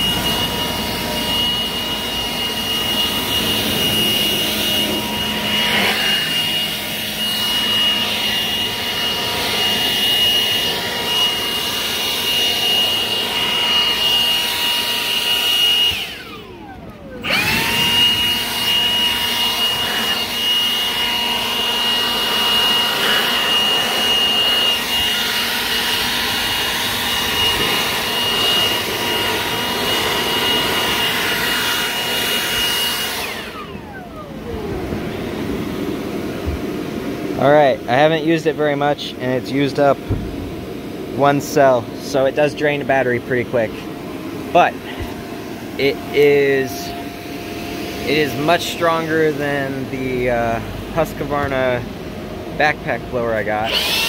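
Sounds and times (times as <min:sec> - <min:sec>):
battery blower whining: 0:00.0 - 0:54.0.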